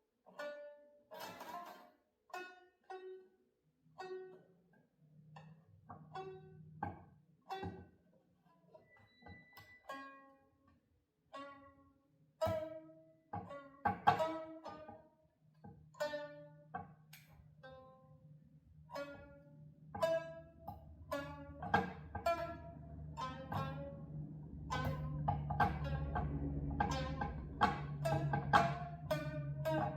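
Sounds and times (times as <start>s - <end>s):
plucked string instrument tune: 0.3s - 29.9s.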